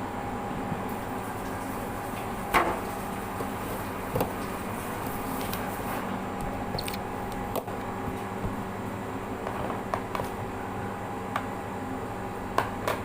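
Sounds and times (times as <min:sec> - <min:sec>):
machine hum: 0:00.0 - 0:12.5.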